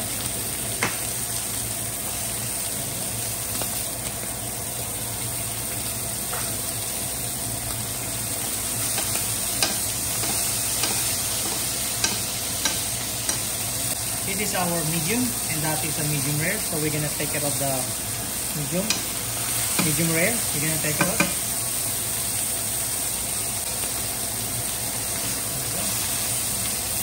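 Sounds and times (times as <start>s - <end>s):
steaks sizzling in a frying pan: 0.0s - 27.0s.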